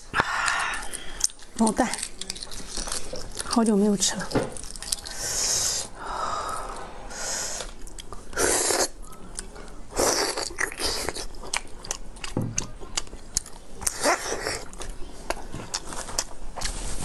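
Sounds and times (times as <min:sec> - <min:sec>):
chewing with mouth clicks: 0:00.4 - 0:05.3, 0:07.6 - 0:16.8.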